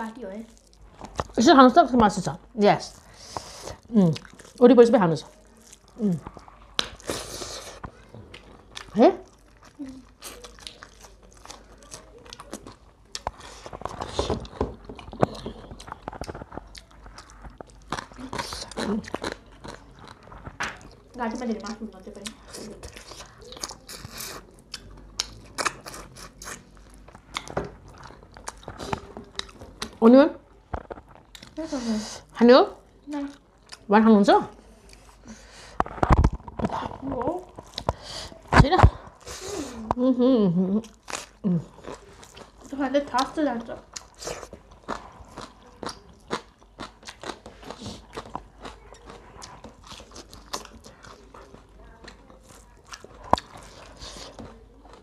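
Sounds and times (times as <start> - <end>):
chewing crispy fried chicken: 0.1 - 1.4, 2.2 - 33.9, 34.5 - 55.0.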